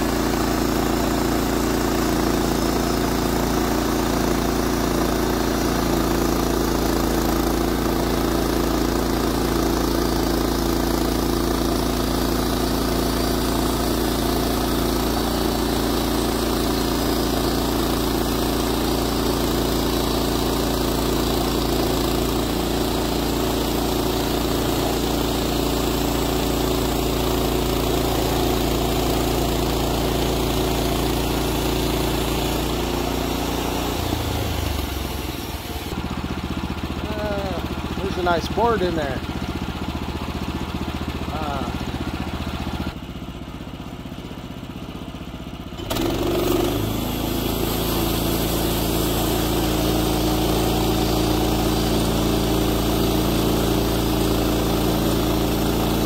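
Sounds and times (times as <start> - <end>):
gas engine running: 0.0 - 56.0.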